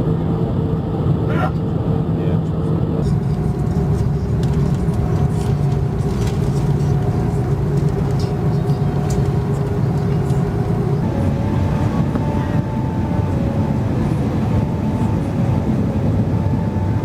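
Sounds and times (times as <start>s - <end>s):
jet engine and airflow drone: 0.0s - 17.0s.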